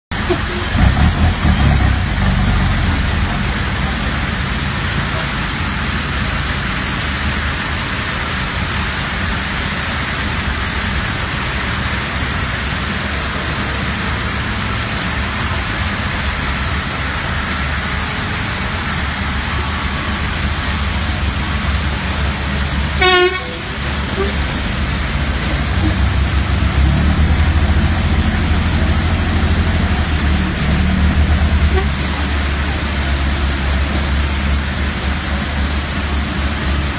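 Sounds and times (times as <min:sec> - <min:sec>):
diesel truck engine running: 0:00.1 - 0:36.9.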